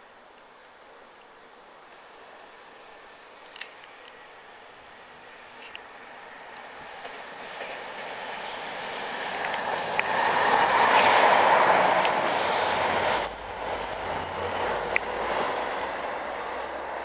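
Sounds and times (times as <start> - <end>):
train wheels rumbling on rail: 2.9 - 17.0.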